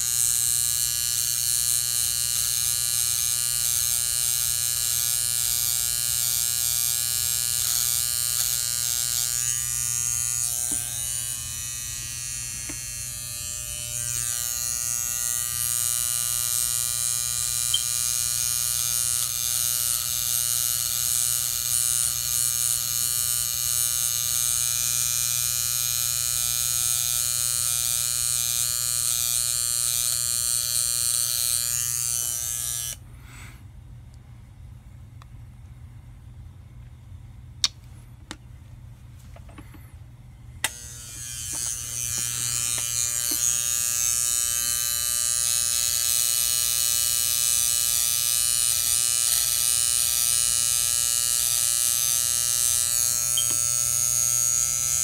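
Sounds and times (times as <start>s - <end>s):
electric hair trimmer buzzing: 0.0s - 33.0s, 40.6s - 55.0s.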